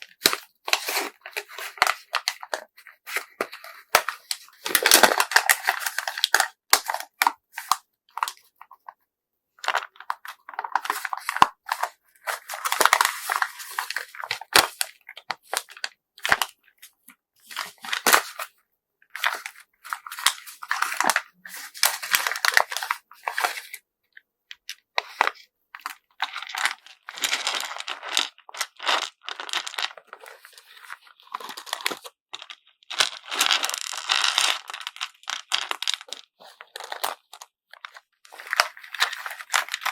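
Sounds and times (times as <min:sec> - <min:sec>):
crinkling of wrapping: 0:00.0 - 0:08.5, 0:09.6 - 0:18.5, 0:19.1 - 0:23.8, 0:25.0 - 0:39.9.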